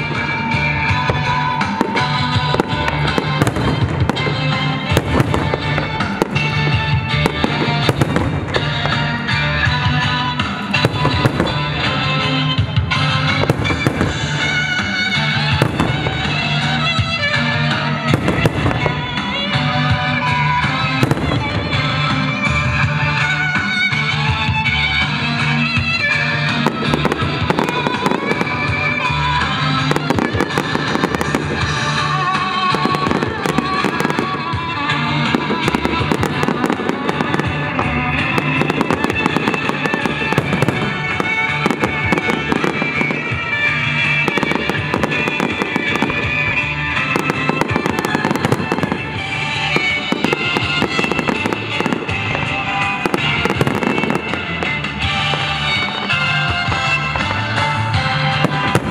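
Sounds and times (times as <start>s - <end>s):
firework shells bursting and crackling: 0.0s - 58.9s
loud music: 0.0s - 58.9s.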